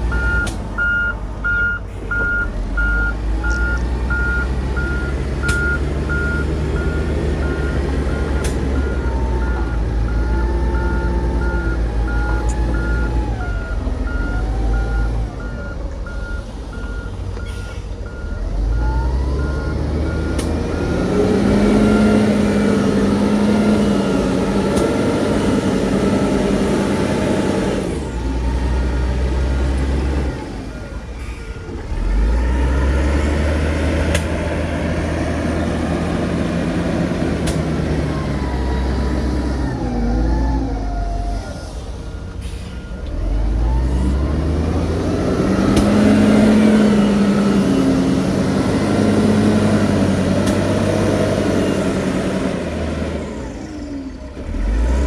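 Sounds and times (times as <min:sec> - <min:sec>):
heavy diesel engines revving: 0:00.0 - 0:55.0.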